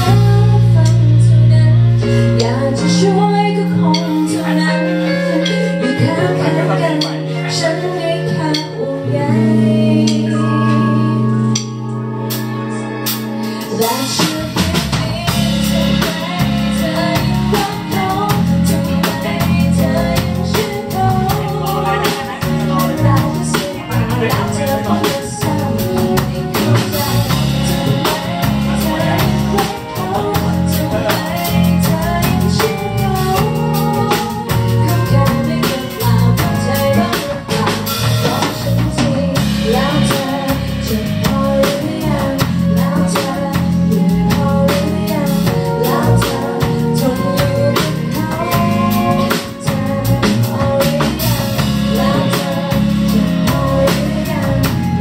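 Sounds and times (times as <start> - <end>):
bass: 0.0 - 55.0
drum kit: 0.0 - 55.0
guitar playing: 0.0 - 55.0
person singing: 0.0 - 55.0.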